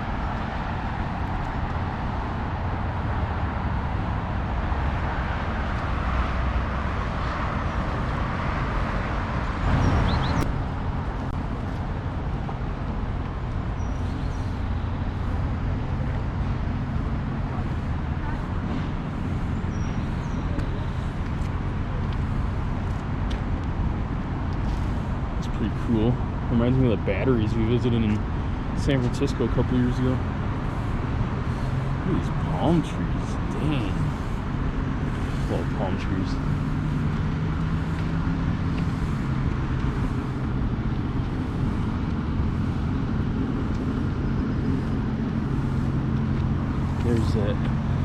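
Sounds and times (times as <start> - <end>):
cars passing: 0.0 - 48.0
road traffic rumble: 0.0 - 48.0.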